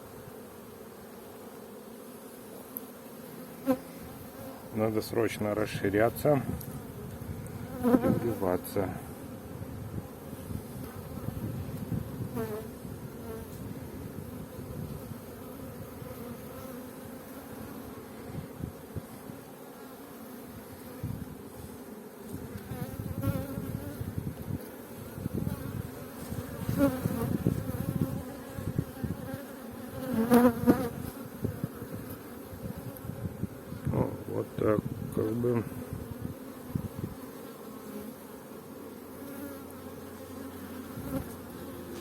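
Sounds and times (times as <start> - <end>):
honeybees buzzing: 0.0 - 42.0.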